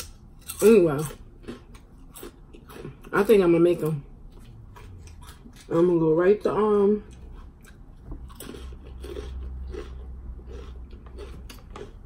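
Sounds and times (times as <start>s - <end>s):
person chewing crunchy chip: 0.0s - 12.0s.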